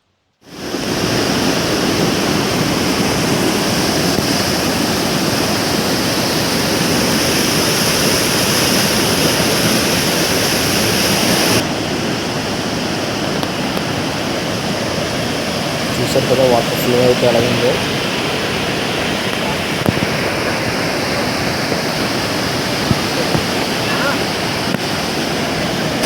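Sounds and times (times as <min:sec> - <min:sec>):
waterfall rushing: 0:00.4 - 0:26.0.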